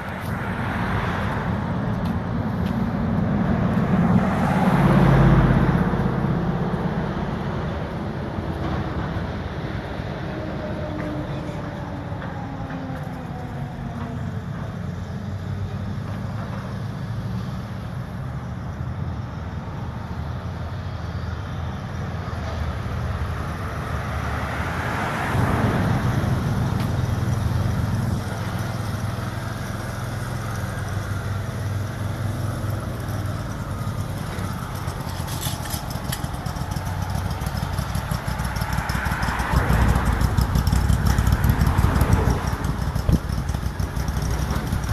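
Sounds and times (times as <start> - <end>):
engines rumbling: 0.0 - 44.9.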